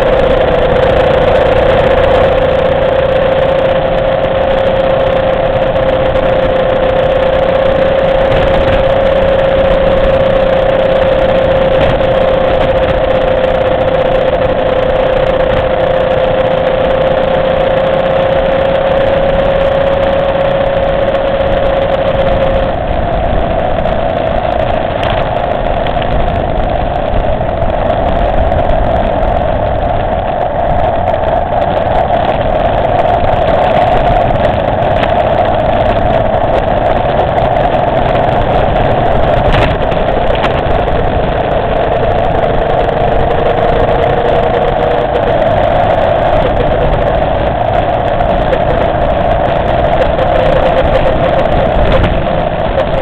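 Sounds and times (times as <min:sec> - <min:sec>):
motorcycle engine cruising: 0:00.0 - 0:53.0
rushing noise: 0:00.0 - 0:53.0.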